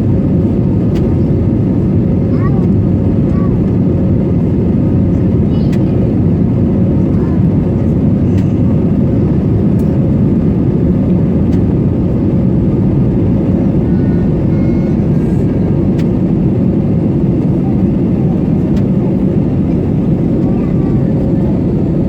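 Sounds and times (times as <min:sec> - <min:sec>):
aircraft engine rumble in cabin: 0:00.0 - 0:22.0.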